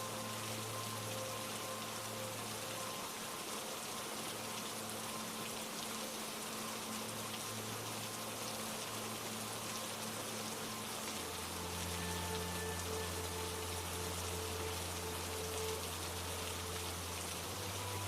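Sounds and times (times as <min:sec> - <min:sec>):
ambient meditation music: 0:00.0 - 0:18.0
steady rain falling: 0:00.0 - 0:18.0.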